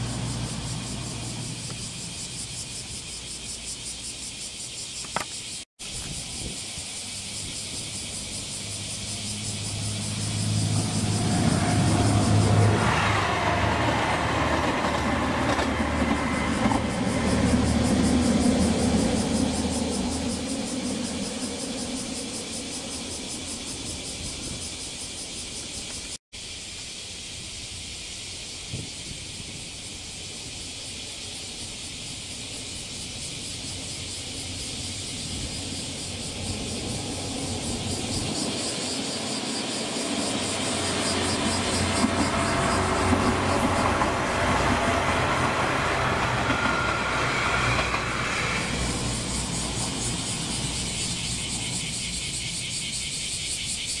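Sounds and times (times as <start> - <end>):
diesel train rumble: 0.0 - 4.3, 6.0 - 26.1, 29.0 - 53.8
cicadas shrilling: 0.0 - 54.0.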